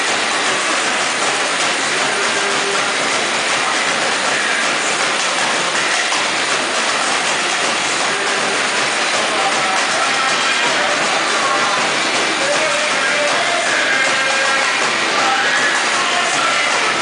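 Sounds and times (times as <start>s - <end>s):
samba drums playing: 0.0s - 17.0s.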